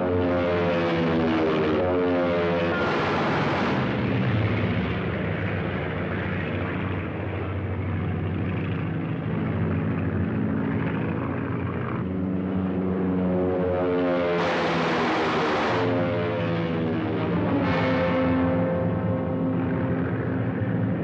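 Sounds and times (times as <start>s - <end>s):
biplane propeller engines droning: 0.0s - 21.0s.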